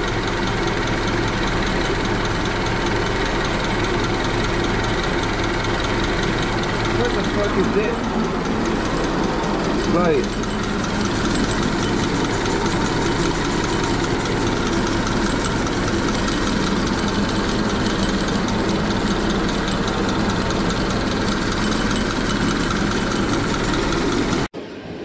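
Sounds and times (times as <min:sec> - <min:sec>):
car engine idling: 0:00.0 - 0:24.5
light engine ticking: 0:00.0 - 0:24.5.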